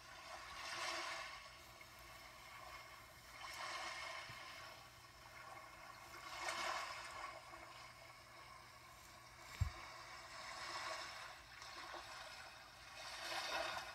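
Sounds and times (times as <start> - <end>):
water washing in swells: 0.0 - 13.9.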